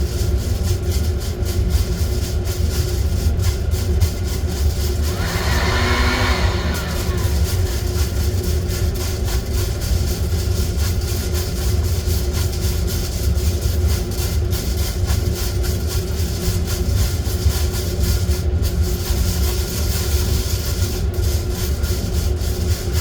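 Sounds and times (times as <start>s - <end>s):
coffee beans clicking and rattling: 0.0s - 23.0s
roasting machine humming: 0.0s - 23.0s.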